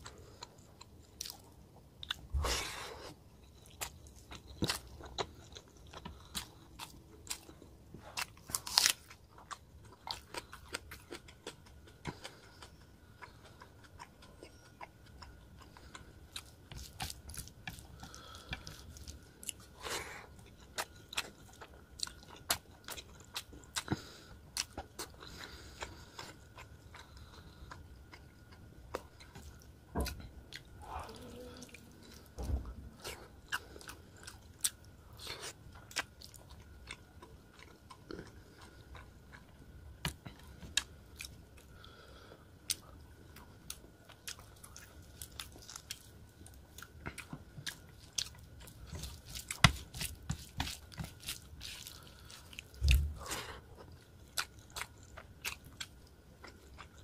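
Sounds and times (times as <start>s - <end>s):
close-up chewing: 0.0s - 57.0s.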